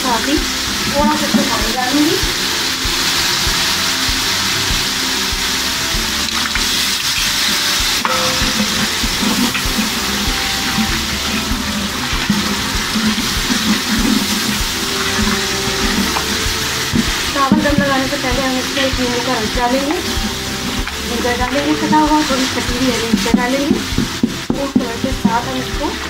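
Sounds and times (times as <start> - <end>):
sauce sizzling in a pot: 0.0 - 26.0
wooden spatula stirring: 0.1 - 26.0.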